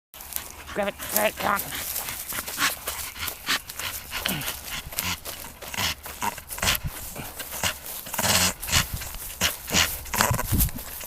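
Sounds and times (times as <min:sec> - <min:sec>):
dog breathing and mouth noises: 0:00.2 - 0:11.0.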